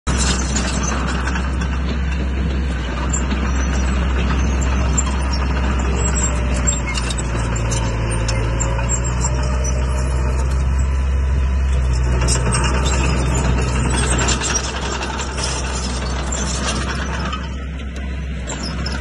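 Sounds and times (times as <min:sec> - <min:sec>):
bulldozer diesel engine: 0:00.0 - 0:19.0.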